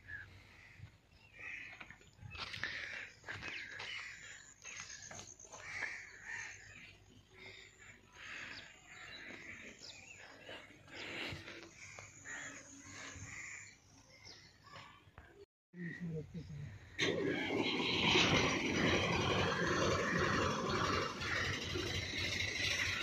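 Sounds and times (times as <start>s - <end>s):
birds calling: 0.0s - 15.0s, 15.8s - 23.0s.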